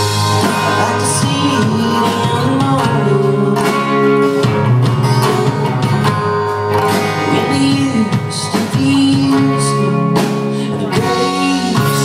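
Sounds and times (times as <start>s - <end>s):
drum kit: 0.0s - 12.0s
electric guitar: 0.0s - 12.0s
strummed acoustic guitar: 0.0s - 12.0s.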